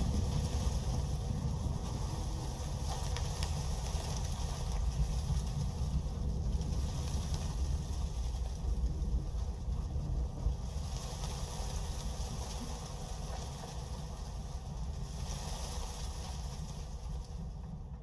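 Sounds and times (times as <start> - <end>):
strong storm wind blowing: 0.0 - 18.0.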